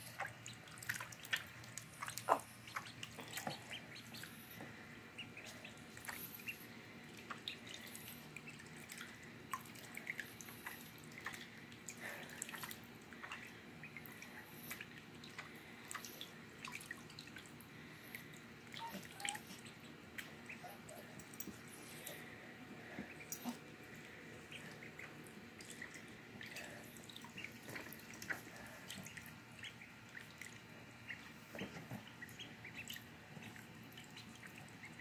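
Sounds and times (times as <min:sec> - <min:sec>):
ducklings splashing in water: 0:00.0 - 0:21.4, 0:22.8 - 0:35.0.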